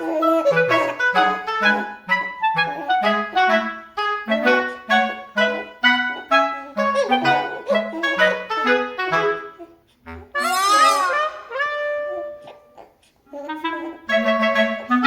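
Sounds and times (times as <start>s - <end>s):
light woodwind melody: 0.0s - 15.0s.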